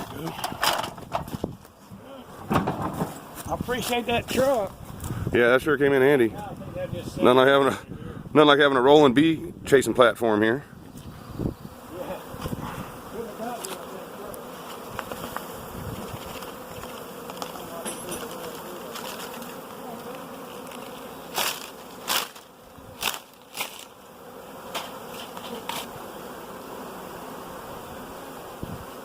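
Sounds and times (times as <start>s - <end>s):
bees buzzing: 0.0s - 5.3s, 10.8s - 29.0s.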